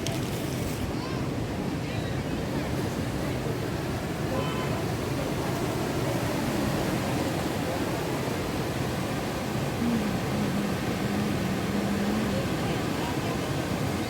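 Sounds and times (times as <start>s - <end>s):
rough sea waves roaring: 2.2s - 14.0s.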